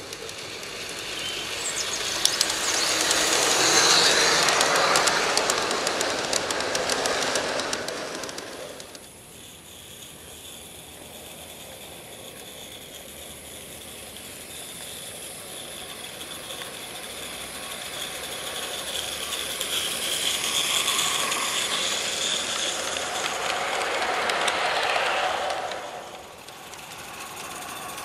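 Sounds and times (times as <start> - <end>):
model steam train passing: 0.0 - 28.0.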